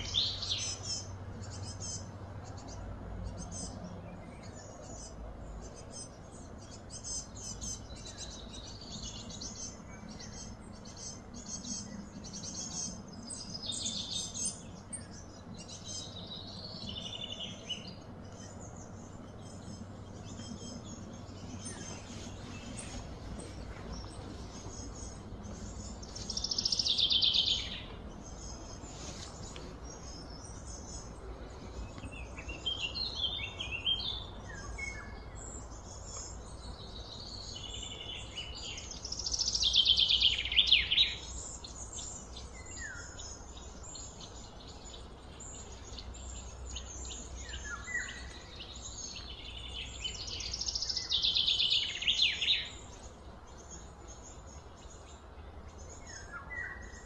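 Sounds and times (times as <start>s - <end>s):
steady low hum: 0.0s - 51.9s
bird chirps: 0.0s - 57.0s
songbird trilling: 0.0s - 57.0s.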